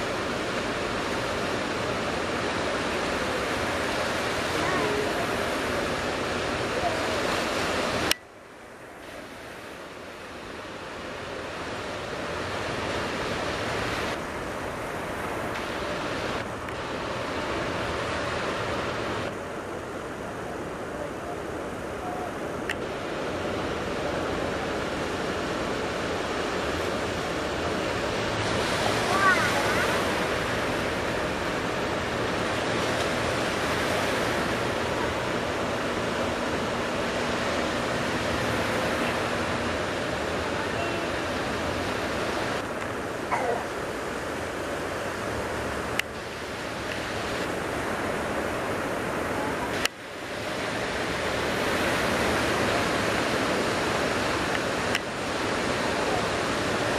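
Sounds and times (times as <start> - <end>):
ocean surf breaking: 0.0 - 56.9.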